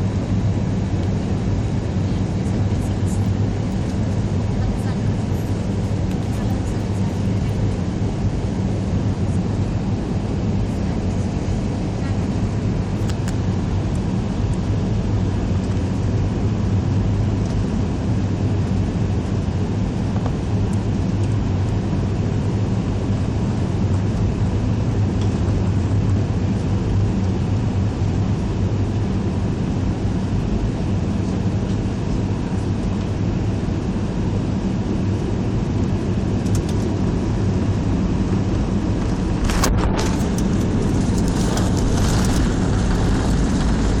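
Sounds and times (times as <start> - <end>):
airliner cabin engine drone: 0.0 - 44.0.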